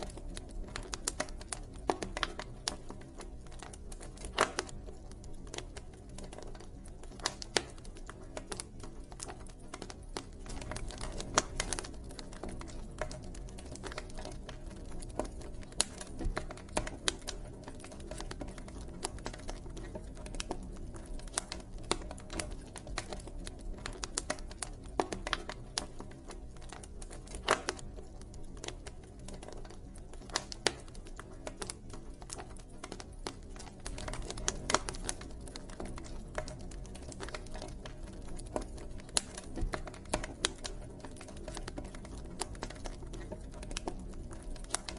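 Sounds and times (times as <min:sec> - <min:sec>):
low rumble of flames: 0:00.0 - 0:44.9
wood fire popping and snapping: 0:00.0 - 0:44.9.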